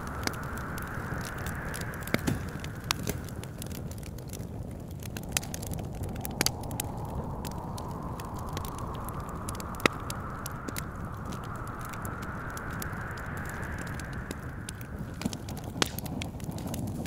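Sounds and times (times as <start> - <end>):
sharp pops of fire: 0.0 - 17.0
whistling wind: 0.0 - 17.0
wood fire crackling: 0.0 - 17.0.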